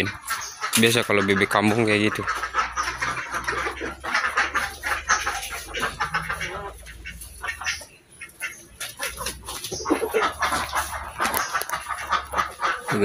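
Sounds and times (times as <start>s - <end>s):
ducks and chickens calling: 0.0s - 13.0s.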